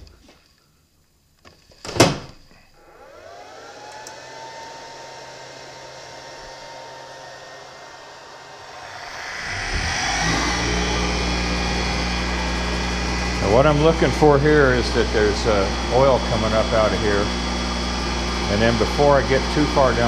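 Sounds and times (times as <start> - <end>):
grinder motor whine: 2.8 - 20.0.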